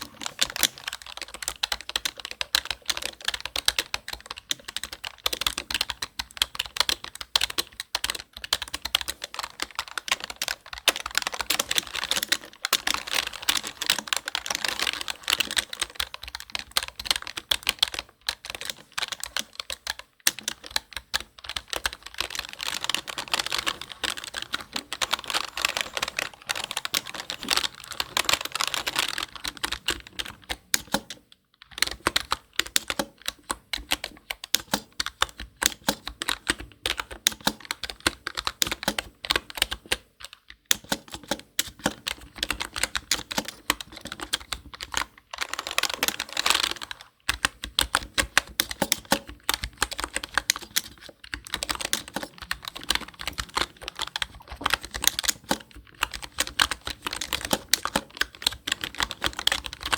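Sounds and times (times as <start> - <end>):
typing on computer keyboard: 0.0 - 59.9.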